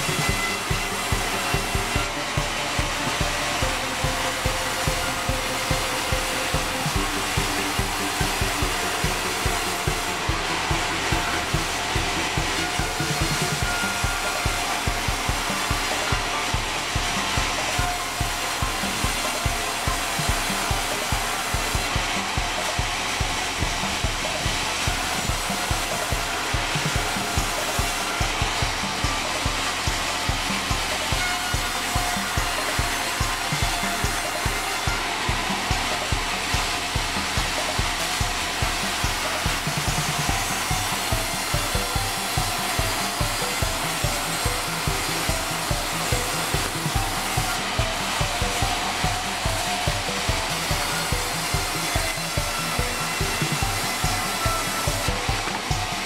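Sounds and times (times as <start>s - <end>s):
band saw whirring: 0.0s - 56.0s
low rhythmic thumping: 0.0s - 56.0s.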